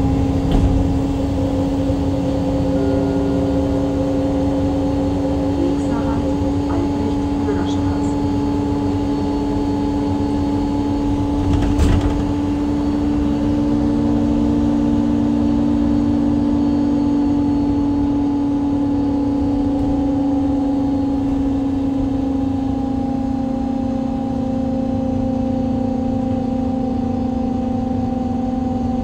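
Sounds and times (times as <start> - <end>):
bus engine droning: 0.0 - 29.0.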